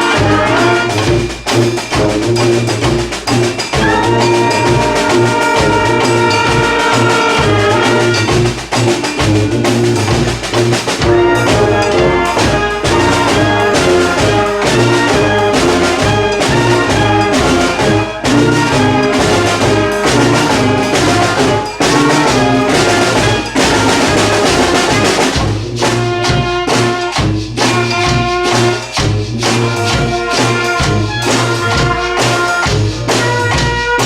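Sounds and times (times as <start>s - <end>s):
brass band playing: 0.0s - 34.0s.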